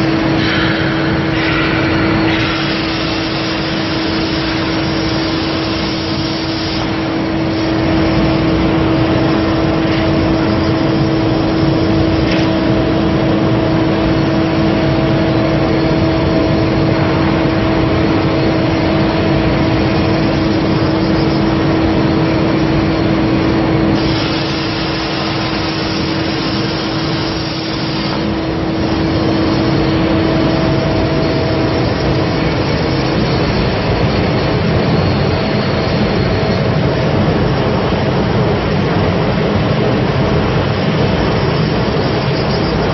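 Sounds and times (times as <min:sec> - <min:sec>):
cutting torch hissing: 0:00.0 - 0:34.8
machine humming tone: 0:00.0 - 0:42.9.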